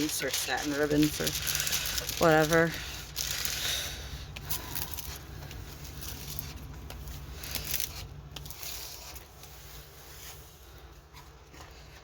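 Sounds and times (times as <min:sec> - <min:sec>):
plastic cover rustling and crinkling: 0:00.0 - 0:12.0
steady low hum: 0:00.0 - 0:12.0.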